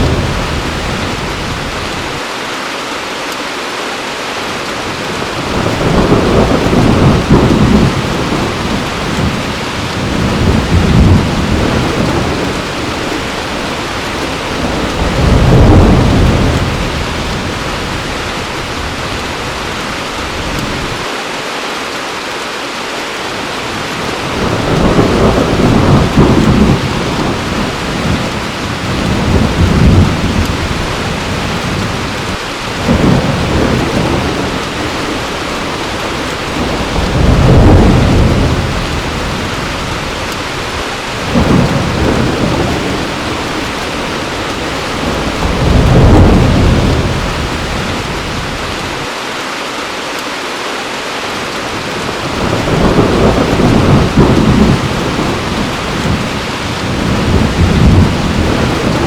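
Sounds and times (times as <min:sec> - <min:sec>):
low thunder rumbles: 0:00.0 - 0:02.2, 0:04.9 - 0:21.0, 0:23.8 - 0:49.1, 0:51.7 - 0:59.0
heavy rain: 0:00.0 - 0:59.0.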